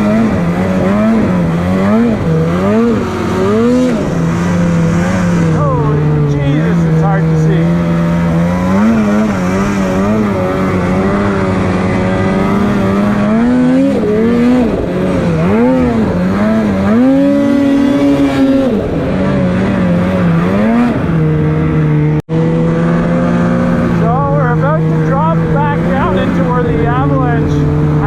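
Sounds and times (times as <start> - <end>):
snowmobile engine revving: 0.0 - 28.0.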